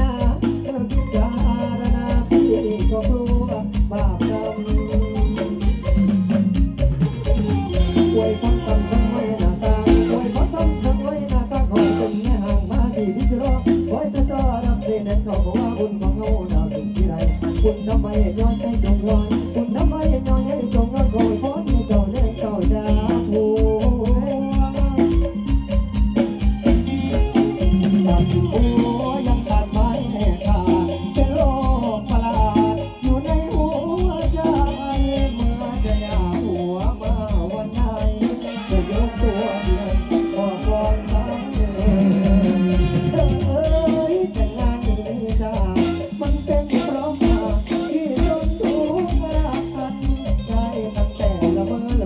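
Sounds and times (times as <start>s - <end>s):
man singing into microphone: 0.0s - 6.4s, 7.2s - 52.0s
band music with bass drum: 0.0s - 52.0s
keyboard: 0.0s - 52.0s.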